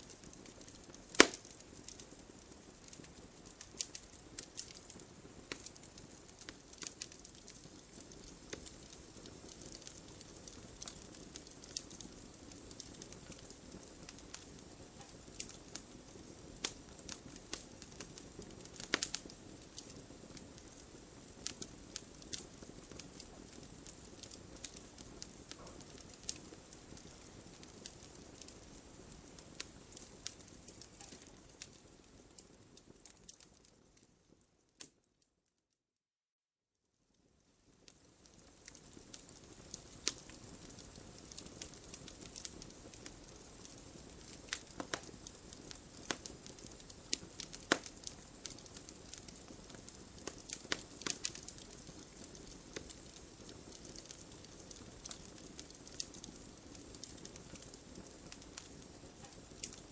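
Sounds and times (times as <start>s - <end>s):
wood fire crackling: 0.0s - 35.2s, 37.2s - 59.9s.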